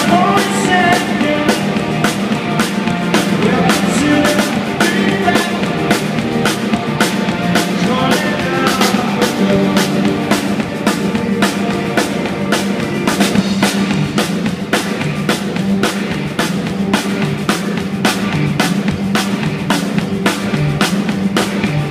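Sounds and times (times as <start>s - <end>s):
drum kit beat: 0.0s - 21.9s
electric guitars: 0.0s - 21.9s.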